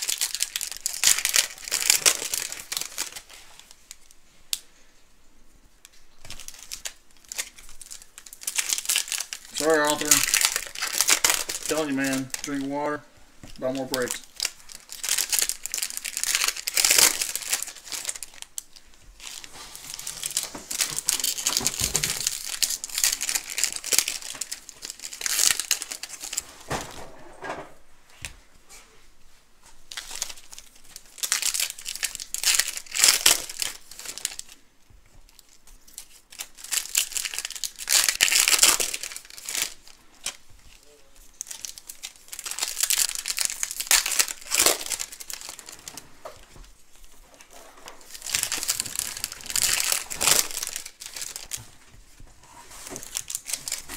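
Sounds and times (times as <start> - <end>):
card pack wrappers tearing and crinkling: 0.0 - 4.6, 5.9 - 27.0, 29.9 - 34.6, 35.2 - 53.9.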